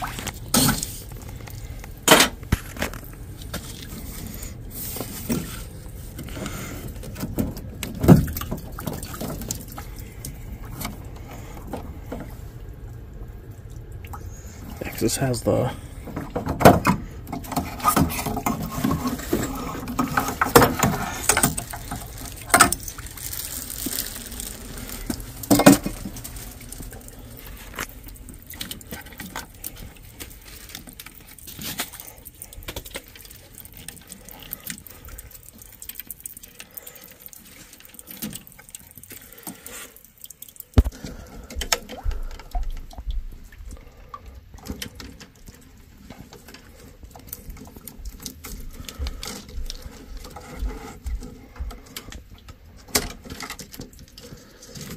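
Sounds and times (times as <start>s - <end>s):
water splashing and trickling: 0.0s - 54.9s.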